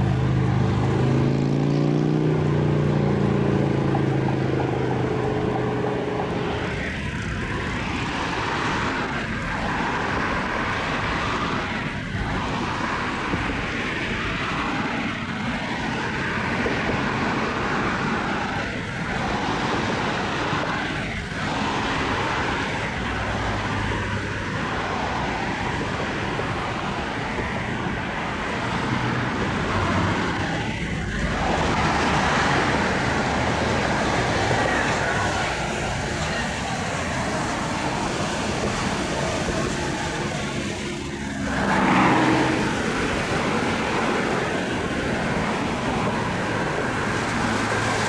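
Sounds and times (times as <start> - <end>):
powerboat engines at speed: 0.0 - 48.0
water rushing: 0.0 - 48.0.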